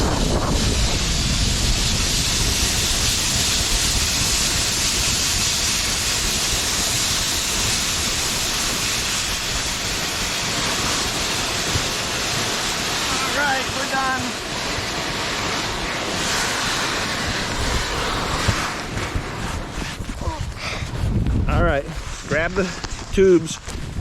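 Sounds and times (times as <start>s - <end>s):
snow tubes sliding hiss: 0.0s - 24.0s
wind buffeting microphone: 0.0s - 24.0s.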